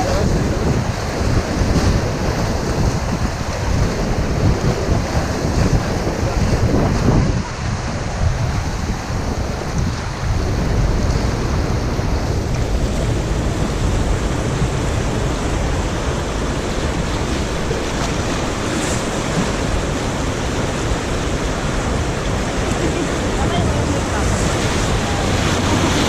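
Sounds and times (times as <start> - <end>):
river water rushing: 0.0 - 26.0
wind buffeting microphone: 0.0 - 26.0.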